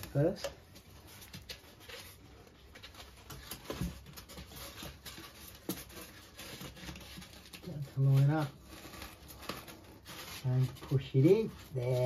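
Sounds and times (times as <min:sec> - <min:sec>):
foam scratching and squeaking: 0:00.0 - 0:12.0.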